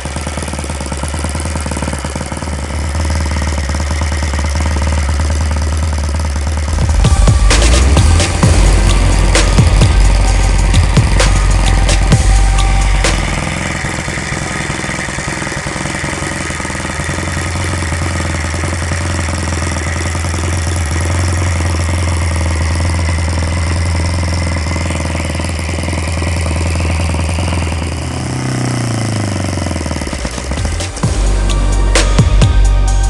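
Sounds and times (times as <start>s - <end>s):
model aircraft engine running: 0.0s - 33.0s.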